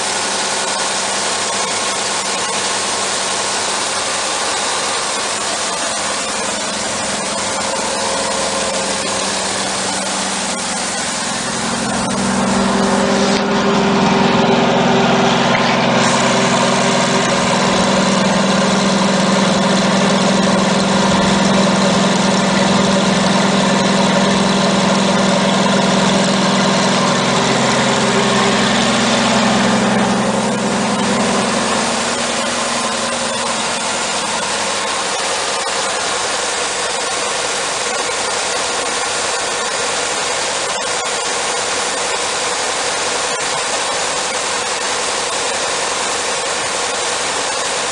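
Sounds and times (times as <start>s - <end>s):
crane engine droning: 0.0s - 47.9s.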